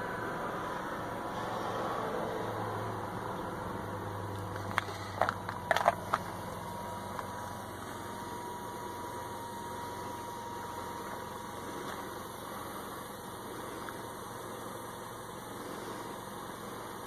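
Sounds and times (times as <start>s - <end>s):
car engine idling: 0.0s - 17.0s
faint high whine: 0.0s - 17.0s.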